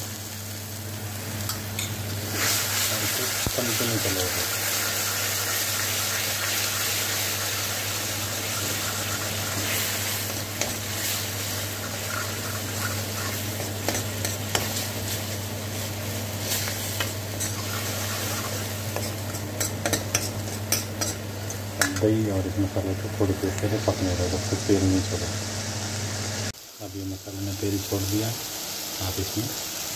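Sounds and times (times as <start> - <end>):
paste sizzling in oil: 0.0 - 29.9.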